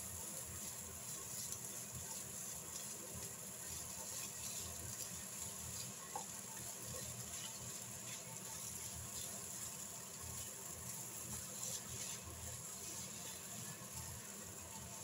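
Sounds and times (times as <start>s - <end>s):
rice sizzling in a frying pan: 0.0s - 15.0s
spatula scraping and tapping pan: 1.0s - 15.0s.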